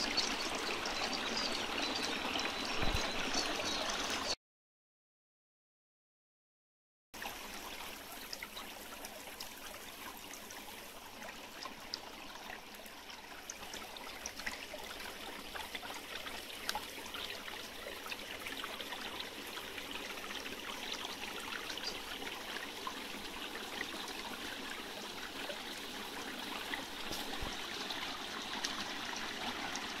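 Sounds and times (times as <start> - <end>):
brook running over stones: 0.0 - 4.4, 7.2 - 30.0.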